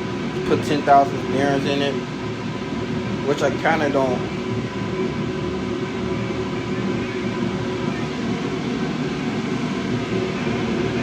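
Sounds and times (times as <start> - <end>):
machine drone with faint tones: 0.0 - 11.0.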